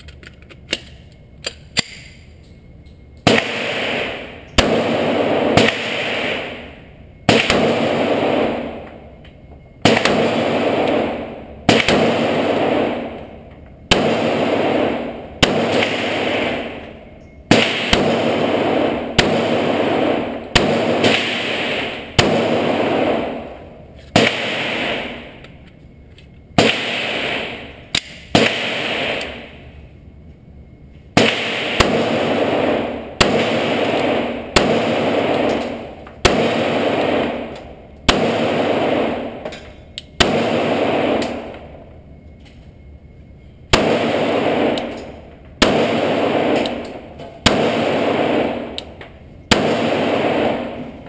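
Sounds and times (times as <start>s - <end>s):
pistol shots ringing indoors: 0.7s - 30.0s, 30.7s - 42.7s, 43.4s - 51.0s.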